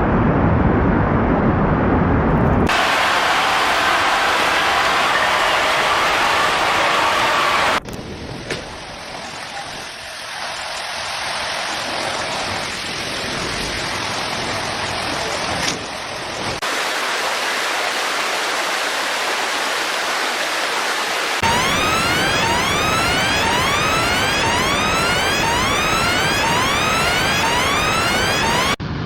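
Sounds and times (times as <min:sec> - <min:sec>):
floodwater rushing: 0:02.7 - 0:07.8, 0:08.8 - 0:28.7
heavy rain: 0:02.7 - 0:28.8.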